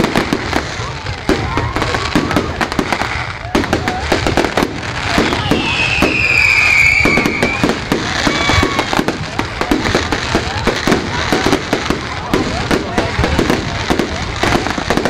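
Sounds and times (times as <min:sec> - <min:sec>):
fireworks banging and crackling: 0:00.0 - 0:15.0
whistling firework: 0:00.0 - 0:15.0.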